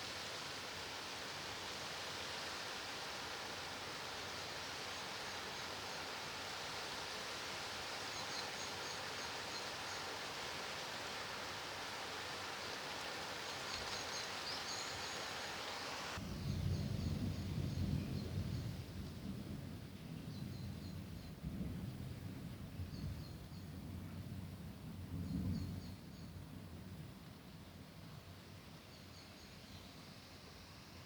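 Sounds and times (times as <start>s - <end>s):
rain hiss: 0.0s - 31.0s.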